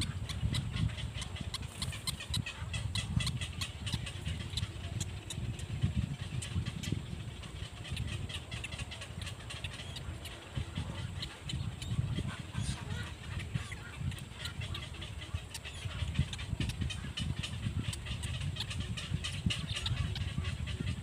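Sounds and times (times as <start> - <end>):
nestlings clicking begging calls: 0.0 - 20.9
steady low rumble: 0.0 - 21.0.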